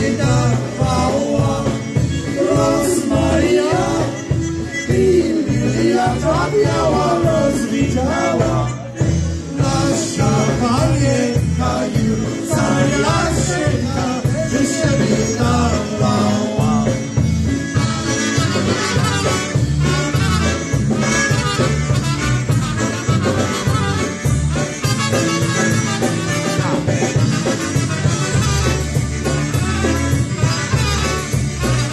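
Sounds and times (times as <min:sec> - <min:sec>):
polka band music: 0:00.0 - 0:31.9.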